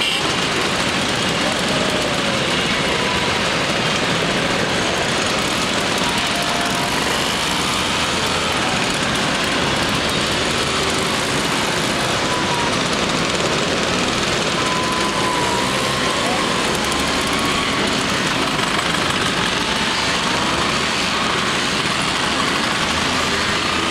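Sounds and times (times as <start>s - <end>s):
many scooter engines running: 0.0s - 23.9s.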